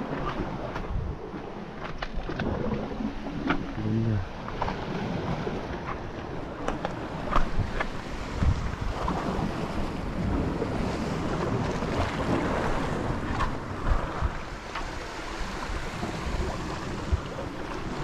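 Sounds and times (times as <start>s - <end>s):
wind buffeting microphone: 0.0s - 1.6s, 2.2s - 18.0s
sea waves: 0.0s - 18.0s.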